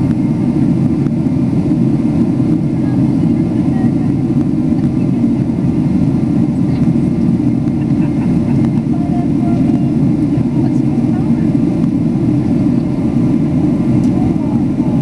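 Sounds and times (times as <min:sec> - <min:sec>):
airplane cabin engine roar: 0:00.0 - 0:15.0.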